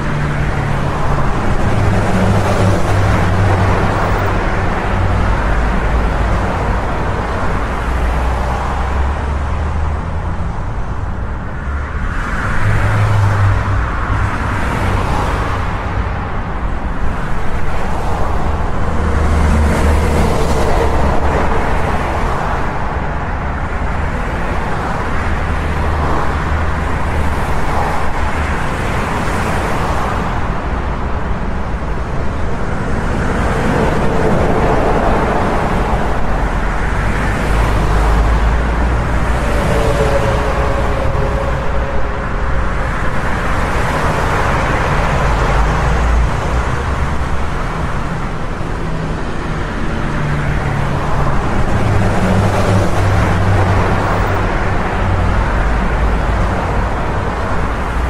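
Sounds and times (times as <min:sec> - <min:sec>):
highway traffic rumble: 0:00.0 - 0:58.0.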